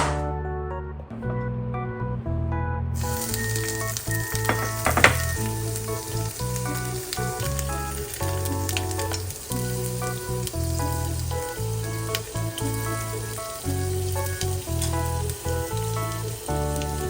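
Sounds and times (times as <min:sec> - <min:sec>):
background music: 0:00.0 - 0:17.0
food sizzling in a hot pan: 0:03.0 - 0:17.0.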